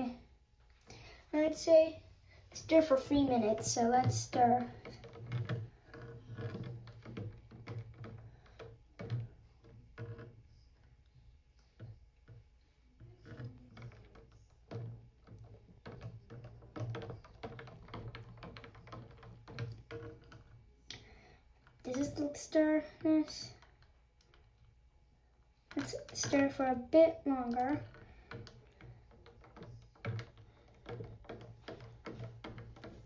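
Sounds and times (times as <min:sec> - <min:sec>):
stirrer knocking plastic tank: 0:02.6 - 0:24.7, 0:25.6 - 0:33.0.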